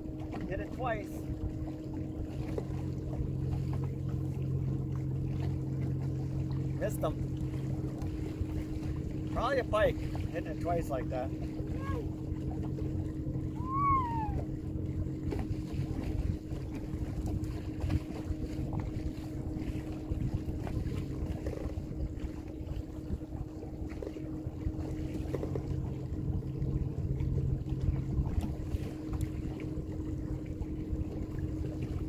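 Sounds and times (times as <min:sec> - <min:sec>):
boat motor running: 0:00.0 - 0:32.0
water noise: 0:00.0 - 0:32.0
wind: 0:00.0 - 0:32.0.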